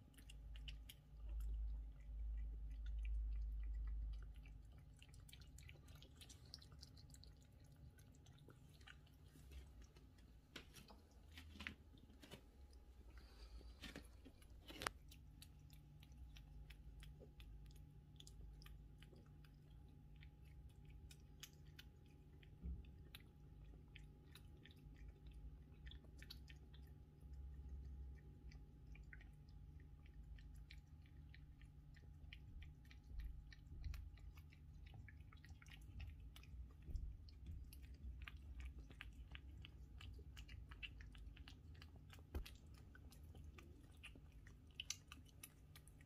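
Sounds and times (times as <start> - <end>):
cats chewing and crunching food: 0.0 - 46.0.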